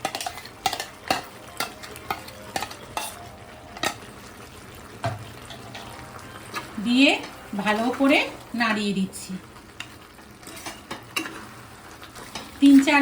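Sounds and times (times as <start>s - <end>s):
oil sizzling in pan: 0.0s - 13.0s.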